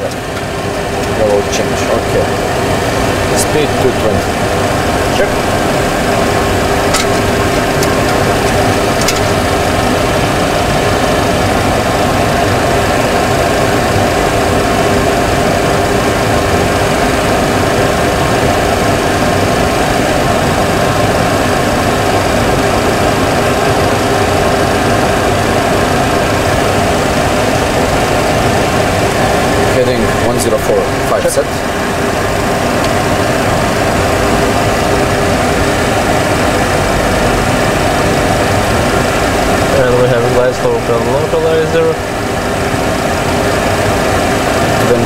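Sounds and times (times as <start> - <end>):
engine and airflow hum in cockpit: 0.0 - 45.0.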